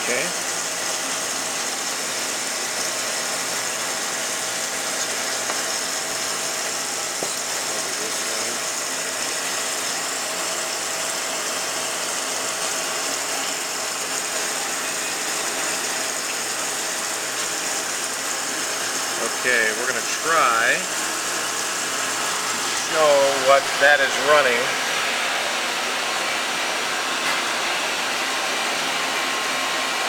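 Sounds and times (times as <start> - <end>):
cnc machine whirring and hissing: 0.0 - 30.0.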